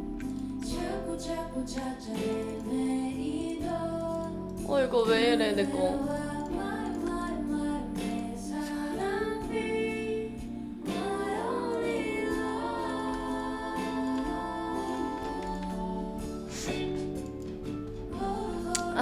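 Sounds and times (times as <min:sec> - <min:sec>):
woman singing with accompaniment: 0:00.0 - 0:19.0.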